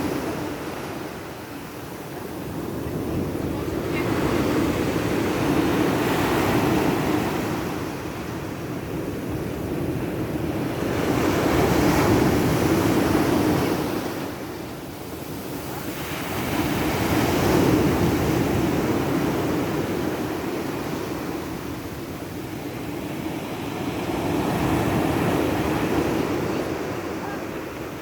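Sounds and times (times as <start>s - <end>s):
sea surf breaking on beach: 0.0s - 28.0s.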